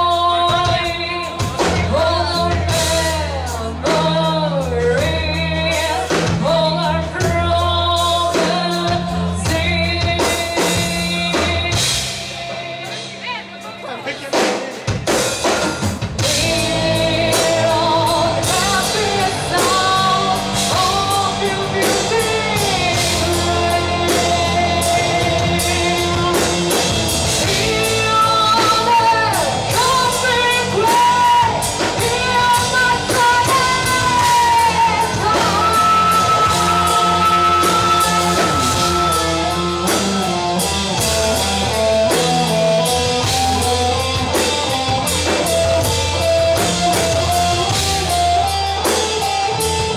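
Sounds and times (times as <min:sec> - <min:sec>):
person singing: 0:00.0 - 0:15.4, 0:16.2 - 0:49.9
rock band playing live: 0:00.0 - 0:49.9.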